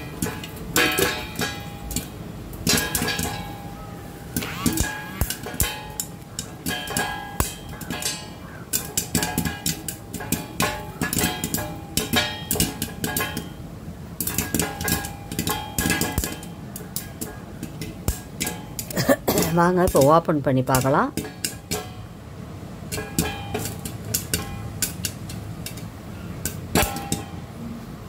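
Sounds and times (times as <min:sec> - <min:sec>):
metal plate ringing: 0:00.0 - 0:27.6
popcorn popping against metal plate: 0:00.0 - 0:27.6.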